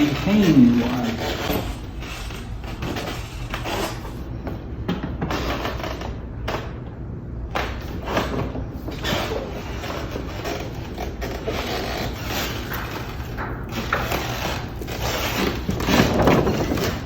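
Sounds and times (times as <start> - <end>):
printing press creaking and scraping: 0.0 - 17.0.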